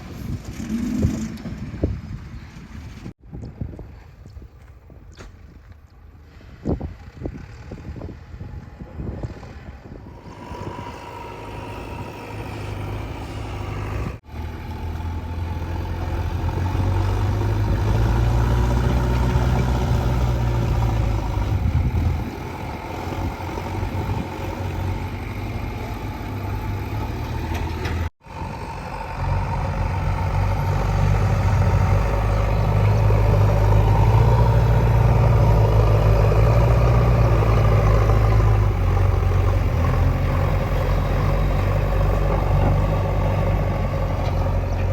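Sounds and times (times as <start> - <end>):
heavy diesel engine rumbling: 6.1 - 44.9.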